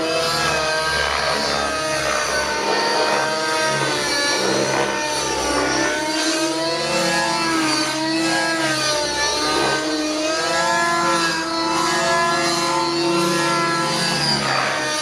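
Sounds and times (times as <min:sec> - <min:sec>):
model helicopter engine revving: 0:00.0 - 0:15.0.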